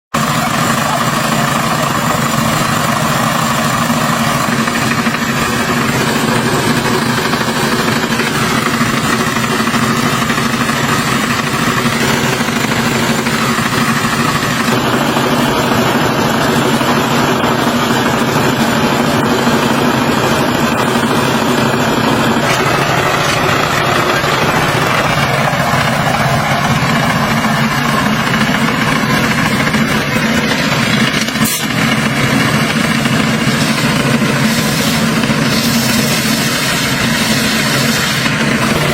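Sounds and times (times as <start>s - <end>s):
tractor engine running under load: 0.1s - 38.9s.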